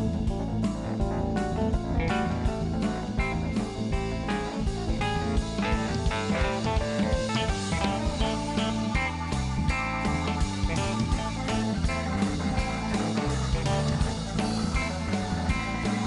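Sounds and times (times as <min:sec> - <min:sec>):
blues-rock band playing live: 0:00.0 - 0:16.0
electric guitar lead: 0:00.0 - 0:16.0.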